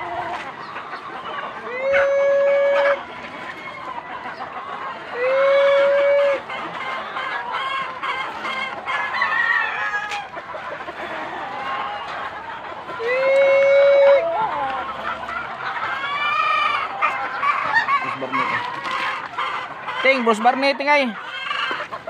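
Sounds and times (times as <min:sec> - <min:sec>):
chickens clucking: 0:00.0 - 0:22.0
roosters crowing: 0:00.0 - 0:22.0.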